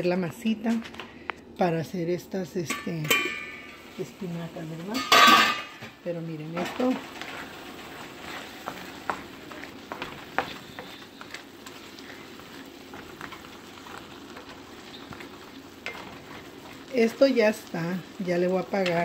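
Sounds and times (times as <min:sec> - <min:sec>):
vegetables sizzling in oil: 0:02.7 - 0:19.0.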